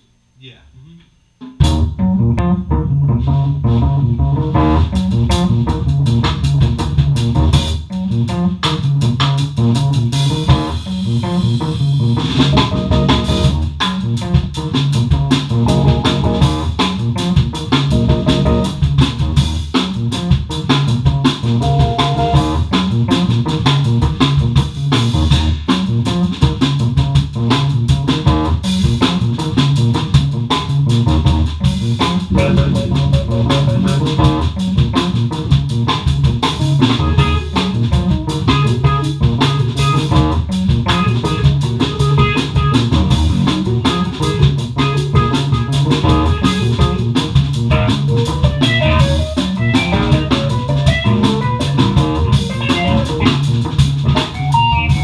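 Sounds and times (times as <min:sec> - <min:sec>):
funk groove on drums and keyboard: 0:01.6 - 0:55.0
heavy bass line: 0:01.6 - 0:55.0.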